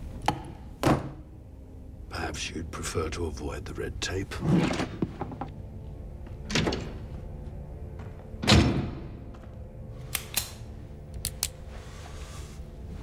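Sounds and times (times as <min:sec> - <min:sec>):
low music drone: 0:00.0 - 0:13.0.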